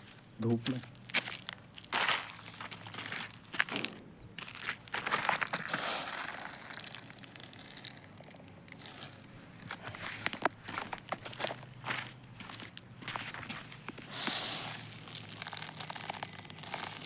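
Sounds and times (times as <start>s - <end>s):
dry plants crunching and crackling: 0.0s - 17.0s.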